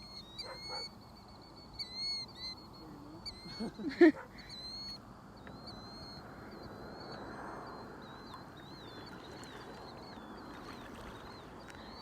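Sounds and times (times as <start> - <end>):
low steady background rush: 0.0 - 12.0.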